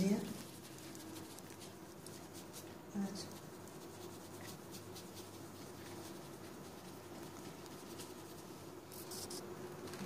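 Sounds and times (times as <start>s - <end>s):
brush tapping and scrubbing: 0.0s - 9.4s
faint steady hum: 0.0s - 10.0s.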